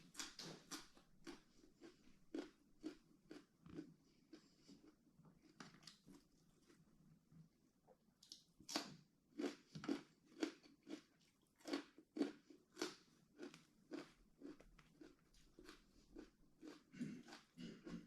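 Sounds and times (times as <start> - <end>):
person chewing food: 0.0 - 6.8, 8.2 - 18.0.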